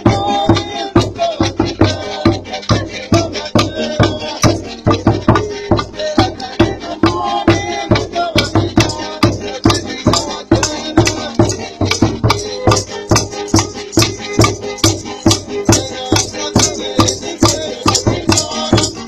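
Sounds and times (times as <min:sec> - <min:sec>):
music with quick beat: 0:00.0 - 0:19.0.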